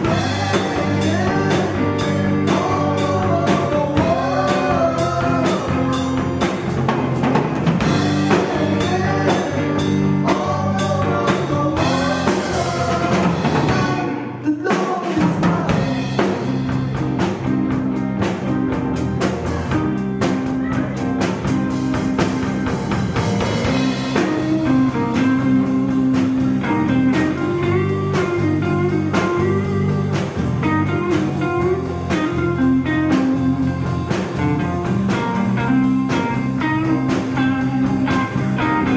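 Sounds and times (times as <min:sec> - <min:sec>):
band playing blues-rock: 0:00.0 - 0:38.9.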